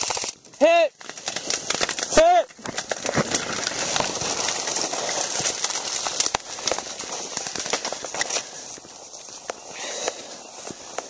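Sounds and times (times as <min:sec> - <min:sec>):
rustling leaves and brush: 0:00.0 - 0:11.0
twigs snapping: 0:00.0 - 0:11.0.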